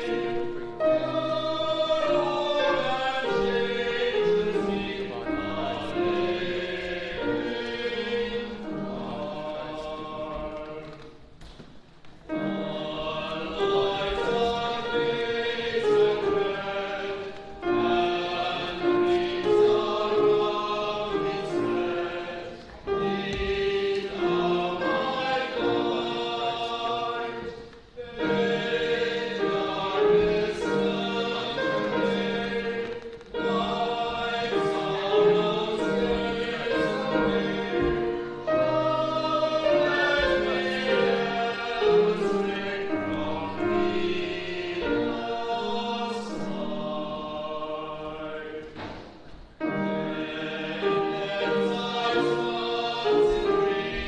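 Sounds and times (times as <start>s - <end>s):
choir singing a hymn: 0.0s - 11.3s, 12.2s - 54.0s.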